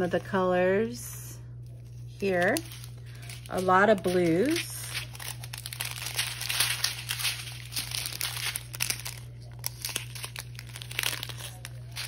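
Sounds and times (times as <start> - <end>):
plastic bags crinkling: 1.6 - 12.0.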